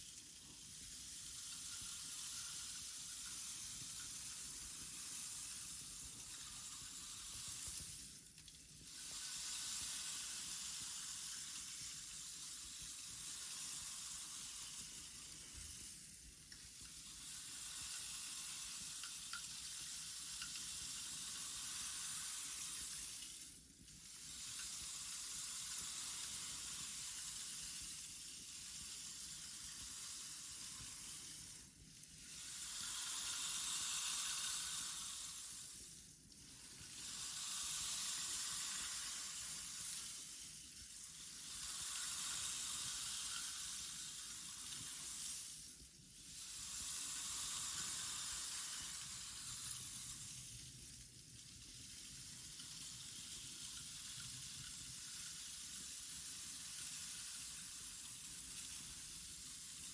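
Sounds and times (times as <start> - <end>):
grains pouring with hiss: 0.0 - 59.9.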